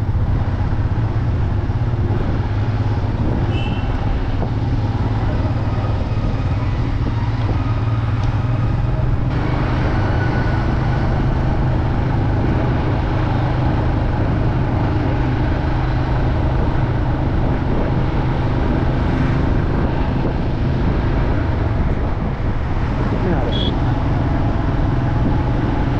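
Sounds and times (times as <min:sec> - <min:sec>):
motorcycle engine cruising: 0:00.0 - 0:25.9
wind and road rush: 0:00.0 - 0:25.9.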